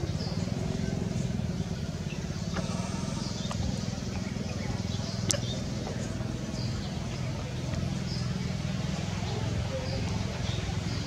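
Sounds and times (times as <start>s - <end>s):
motor engine running: 0.0s - 11.0s.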